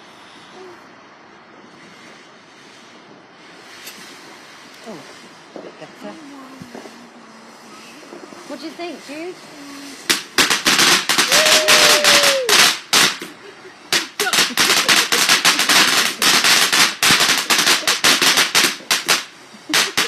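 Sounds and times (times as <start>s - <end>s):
fireworks crackling bangs: 0.0s - 20.0s.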